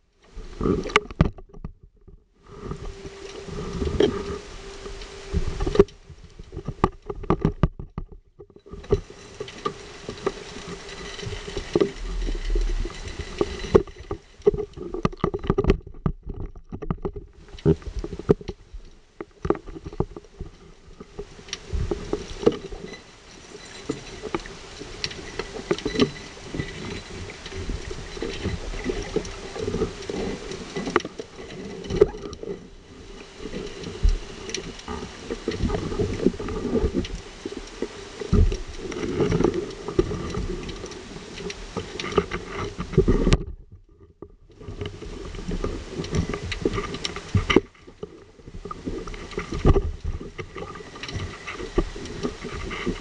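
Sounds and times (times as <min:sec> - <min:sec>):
small clicks and knocks: 0:00.6 - 0:53.0
underwater water rushing: 0:02.4 - 0:07.7, 0:08.7 - 0:43.4, 0:44.6 - 0:53.0.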